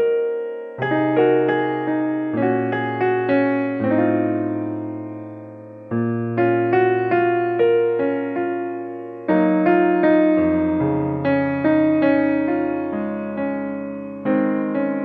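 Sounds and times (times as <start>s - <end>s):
slow piano chords and melody: 0.0s - 15.0s.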